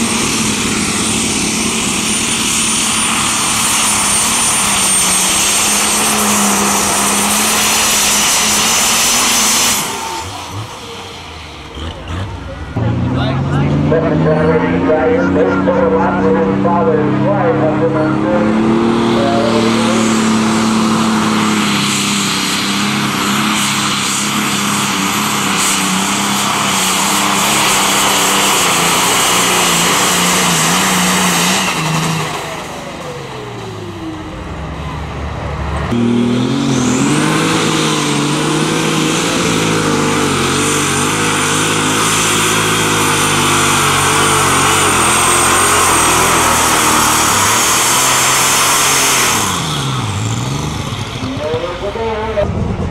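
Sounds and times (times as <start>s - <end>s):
tractor diesel engines at full throttle: 0.0s - 52.9s.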